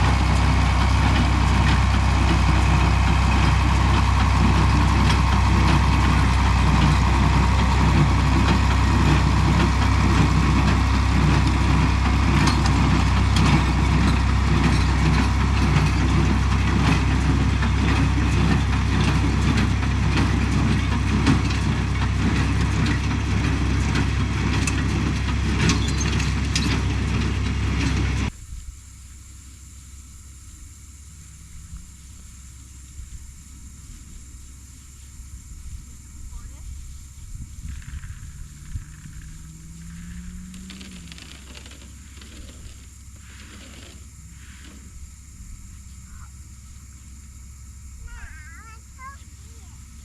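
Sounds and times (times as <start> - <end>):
tractor engine idling: 0.0 - 50.0.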